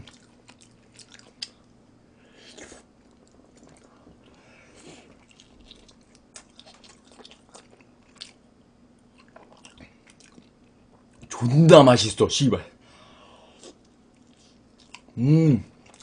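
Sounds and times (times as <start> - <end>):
person chewing food: 0.0 - 11.3, 13.5 - 15.1, 15.8 - 16.0
faint steady hum: 0.0 - 16.0.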